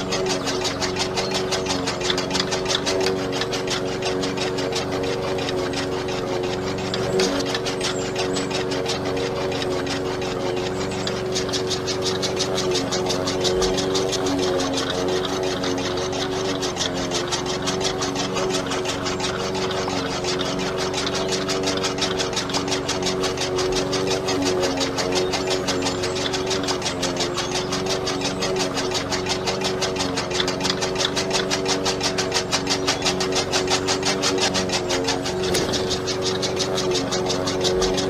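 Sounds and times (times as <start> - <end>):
rapid ticking of cutter: 0.0 - 38.0
small electric motor whine: 0.0 - 38.0.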